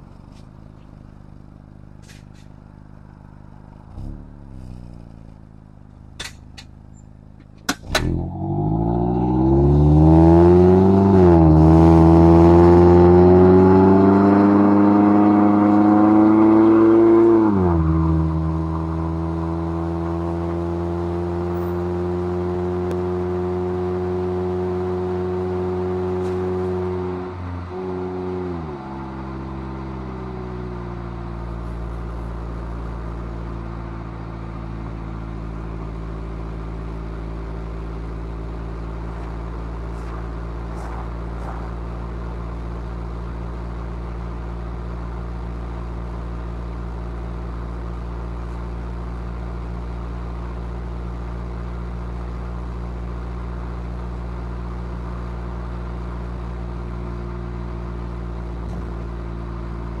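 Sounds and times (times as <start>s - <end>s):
car engine cruising: 0.0s - 60.0s
road noise: 0.0s - 60.0s.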